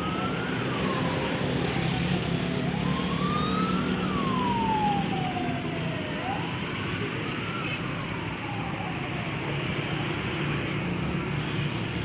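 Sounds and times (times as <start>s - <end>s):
wailing siren: 0.0s - 10.5s
engine and road rumble: 0.0s - 12.0s.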